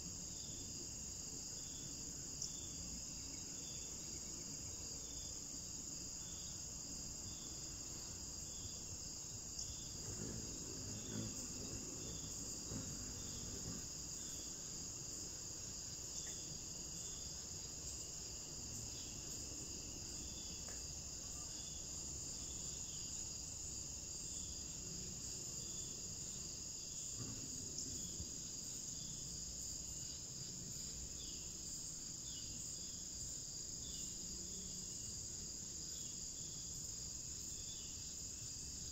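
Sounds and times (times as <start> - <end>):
crickets chorus: 0.0 - 38.9.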